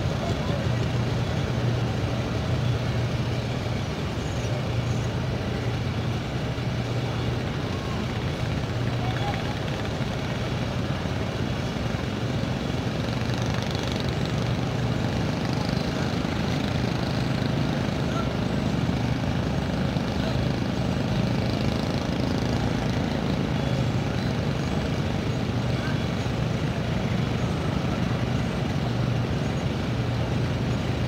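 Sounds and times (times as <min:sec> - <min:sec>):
ship diesel engine droning: 0:00.0 - 0:31.0.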